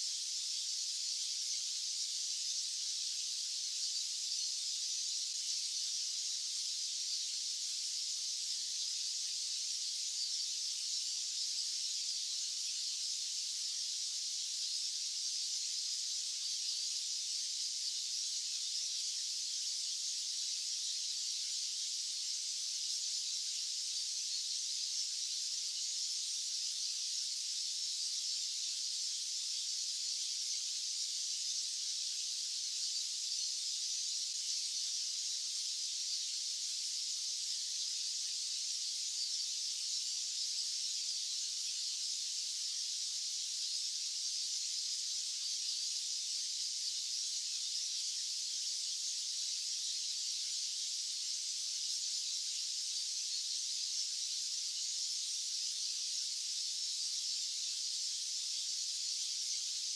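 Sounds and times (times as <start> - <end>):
high-pitched white noise hiss: 0.0 - 59.9.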